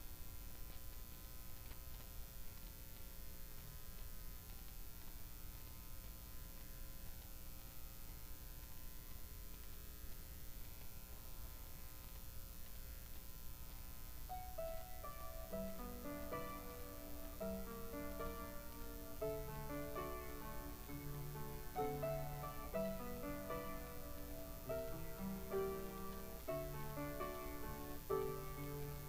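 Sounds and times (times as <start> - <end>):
electrical hum and buzz: 0.0 - 29.0.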